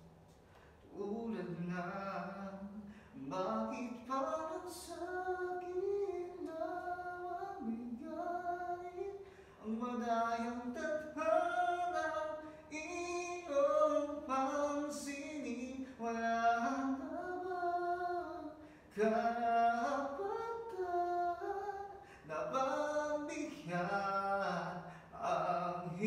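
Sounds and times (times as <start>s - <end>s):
man singing a cappella: 0.8s - 26.0s.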